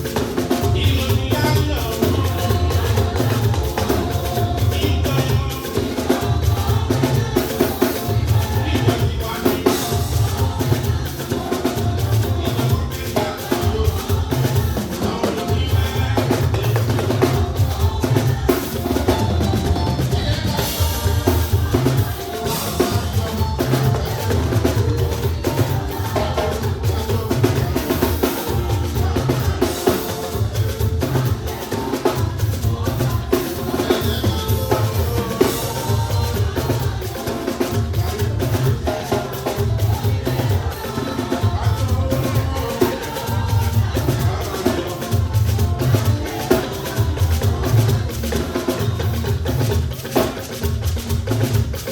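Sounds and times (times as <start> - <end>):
band music: 0.0 - 51.9
drum kit and percussion: 0.0 - 51.9.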